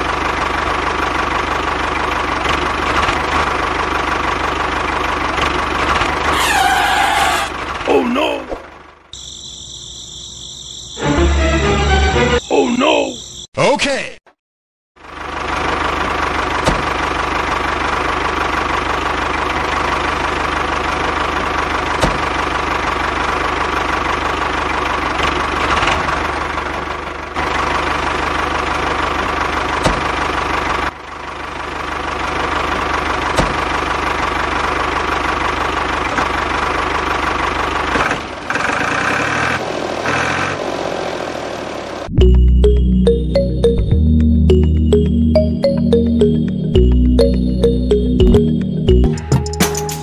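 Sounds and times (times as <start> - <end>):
tractor engine running: 0.0 - 9.3, 15.0 - 50.0.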